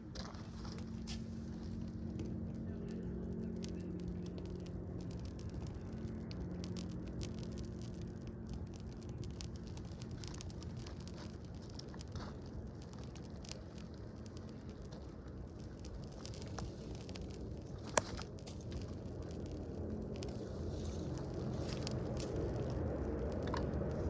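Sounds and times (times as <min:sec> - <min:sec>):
fire crackling: 0:00.0 - 0:24.0
low steady fire rumble: 0:00.0 - 0:24.0.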